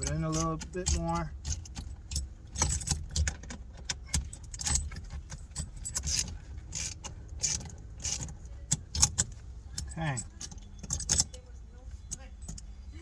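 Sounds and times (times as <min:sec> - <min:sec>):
hand ratchet clicking: 0:00.0 - 0:11.3.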